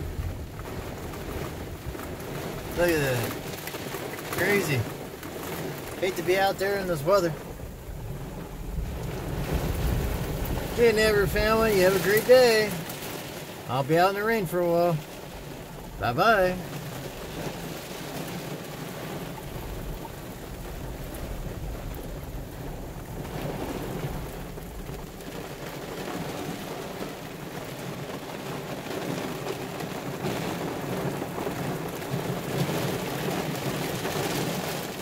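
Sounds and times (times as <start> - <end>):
rain drumming on vehicle roof: 0.0 - 35.0.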